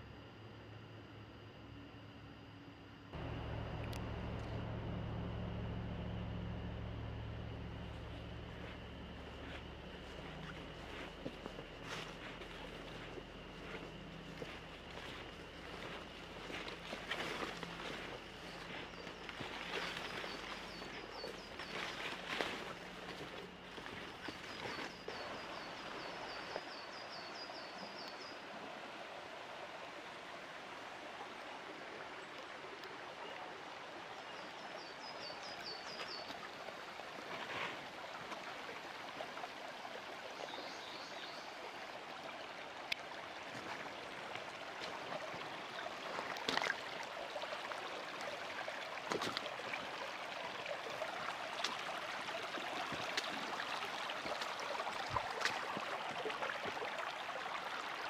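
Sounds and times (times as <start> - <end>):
stream running over stones: 7.6 - 58.0.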